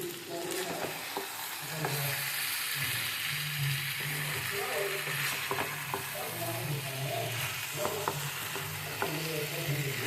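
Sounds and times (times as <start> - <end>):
curry sizzling in a pan: 0.0 - 10.0.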